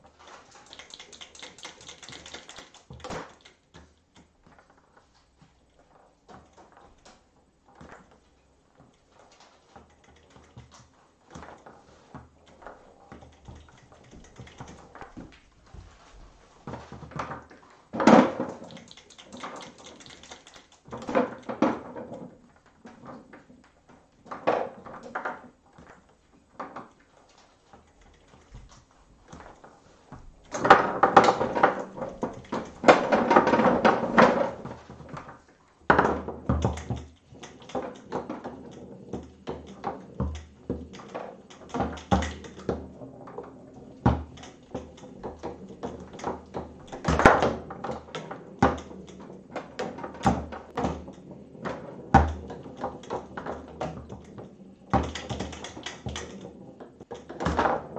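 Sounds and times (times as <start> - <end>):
foosball rods and ball clacking: 0.0 - 57.9.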